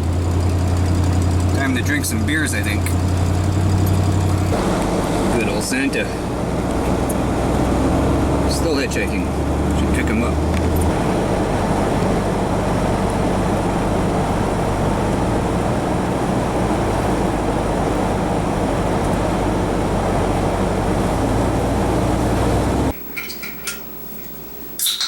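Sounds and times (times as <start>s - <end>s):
engine and road noise in cab: 0.0s - 25.0s
low hum: 0.0s - 25.0s.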